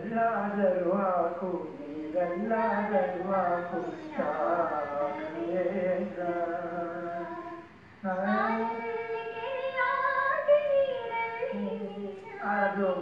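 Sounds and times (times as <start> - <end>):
person singing classical vocals: 0.0 - 13.0.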